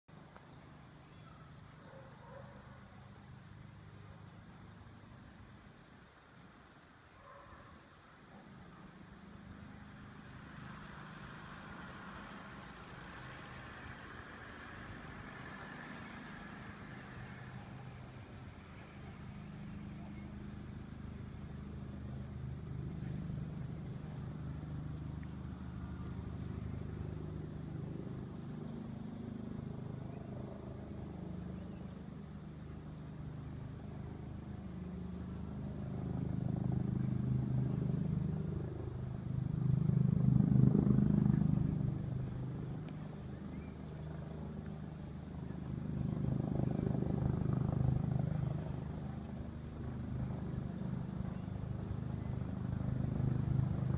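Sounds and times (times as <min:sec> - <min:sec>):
helicopter flying over: 0:00.2 - 0:06.1, 0:08.1 - 0:53.9.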